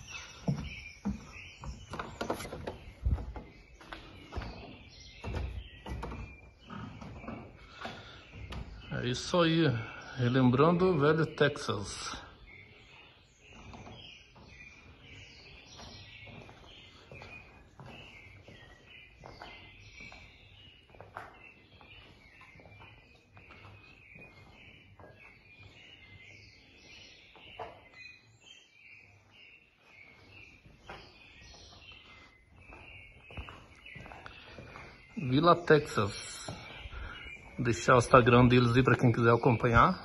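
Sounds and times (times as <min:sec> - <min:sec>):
faint birds chirping: 0:00.0 - 0:40.0.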